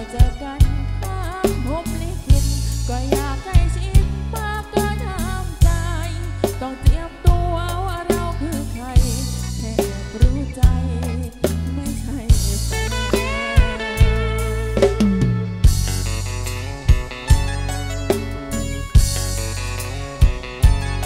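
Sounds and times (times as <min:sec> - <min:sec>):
drum kit steady beat: 0:00.0 - 0:21.0
electric bass notes: 0:00.0 - 0:21.0
pop band through sound system: 0:00.0 - 0:21.0.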